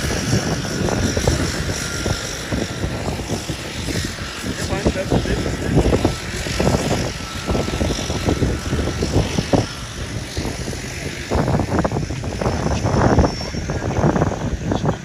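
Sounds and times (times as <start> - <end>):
crowd voices: 0.0 - 15.0
distant aircraft engine running: 0.0 - 15.0.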